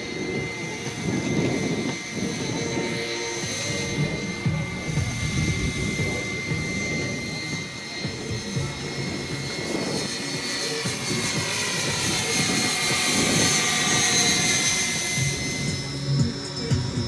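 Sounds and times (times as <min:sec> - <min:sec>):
model helicopter whine: 0:00.0 - 0:17.0
rotors rushing: 0:00.0 - 0:17.0.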